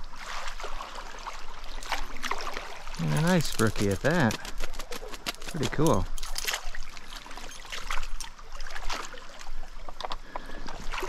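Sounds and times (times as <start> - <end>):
water splashing around net: 0.0 - 9.5, 10.8 - 11.0
flowing stream: 0.0 - 11.0.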